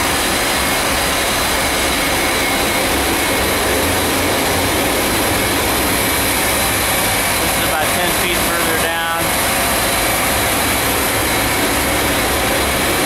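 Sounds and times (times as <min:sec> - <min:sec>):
boiler burner roaring: 0:00.0 - 0:13.0.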